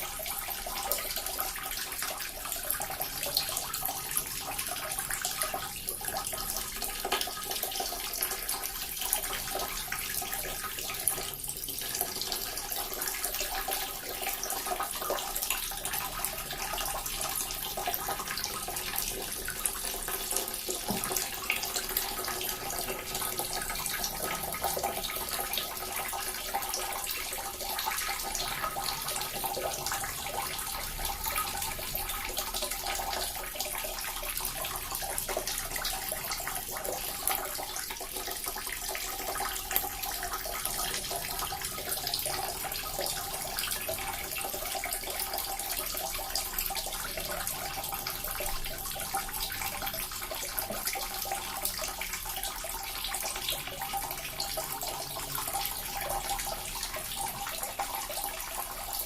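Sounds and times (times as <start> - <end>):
water fountain splashing: 0.0 - 59.0.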